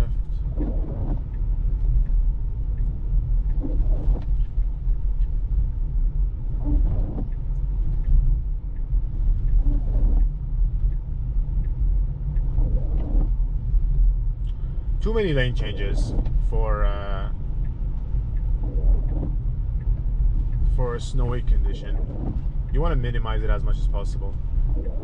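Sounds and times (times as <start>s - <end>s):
tyres rumbling on snowy road: 0.0s - 25.0s.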